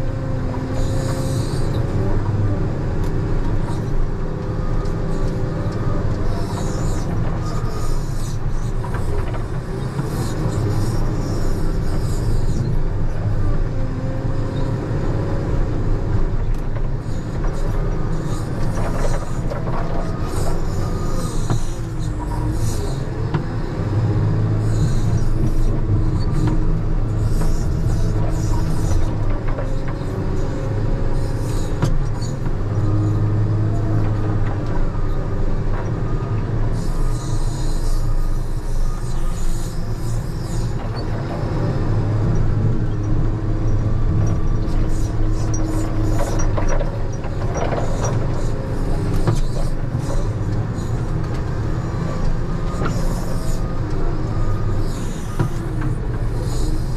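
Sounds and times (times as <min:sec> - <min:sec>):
loader diesel engine under load: 0:00.0 - 0:56.9.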